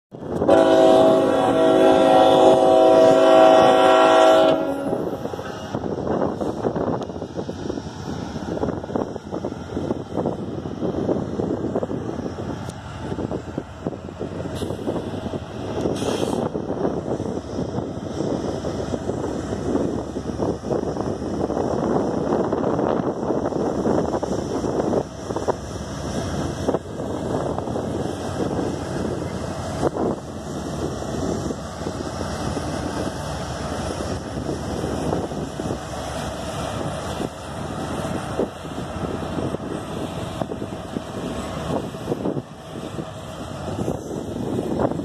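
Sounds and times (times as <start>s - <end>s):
diesel locomotive passing: 0.1s - 45.0s
freight cars rumbling: 0.1s - 45.0s.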